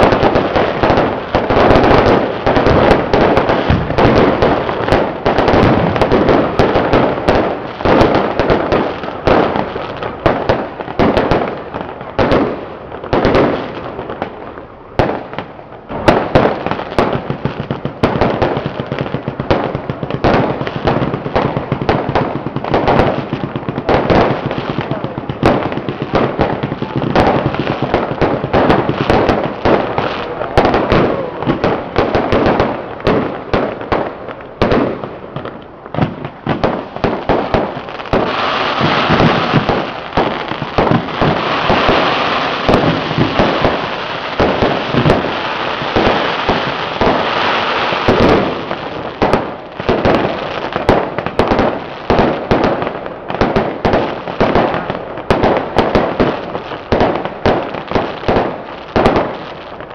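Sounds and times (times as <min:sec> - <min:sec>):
firecrackers cracking: 0:00.0 - 0:59.9.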